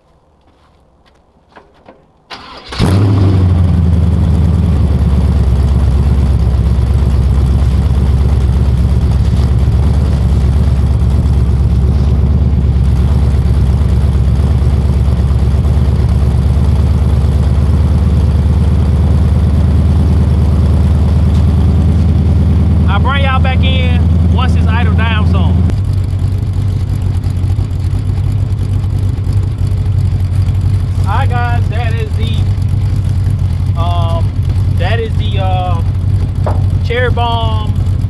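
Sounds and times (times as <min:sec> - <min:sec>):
car engine starting and idling: 0:02.2 - 0:38.0.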